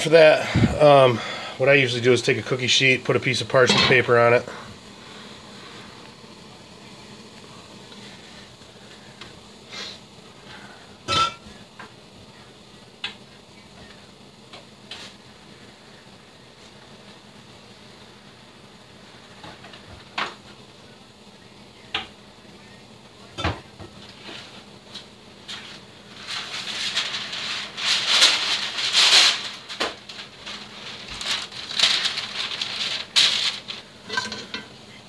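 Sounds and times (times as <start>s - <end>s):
water boiling and bubbling in a pot: 0.0s - 35.0s.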